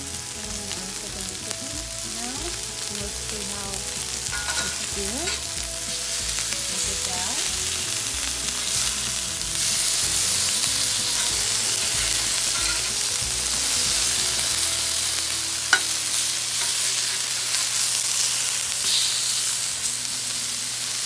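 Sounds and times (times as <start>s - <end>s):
chicken sizzling on griddle: 0.0s - 21.0s.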